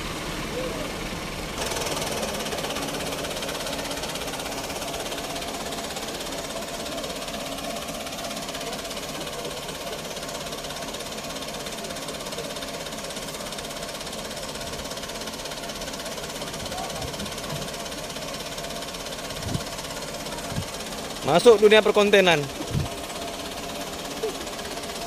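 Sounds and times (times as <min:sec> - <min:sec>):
tractor diesel engine clattering: 0:00.0 - 0:25.0.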